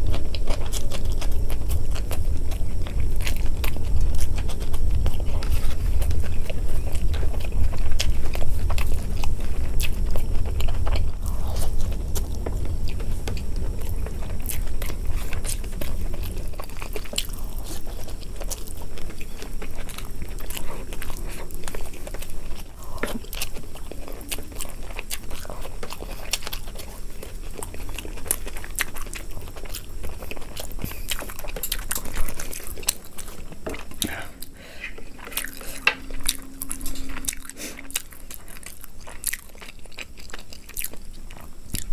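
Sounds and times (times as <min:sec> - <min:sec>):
person chewing food: 0:00.0 - 0:41.9.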